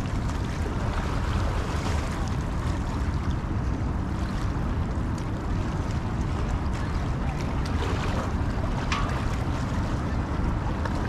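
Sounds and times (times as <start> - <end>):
water lapping against rocks: 0.0 - 11.0
wind buffeting microphone: 0.0 - 11.0.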